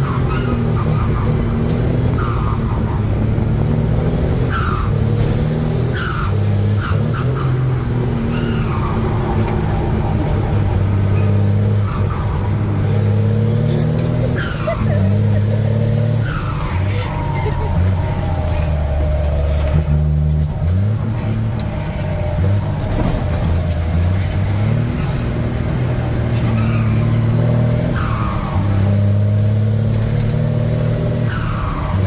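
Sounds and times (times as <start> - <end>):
truck engine running: 1.0 - 28.4.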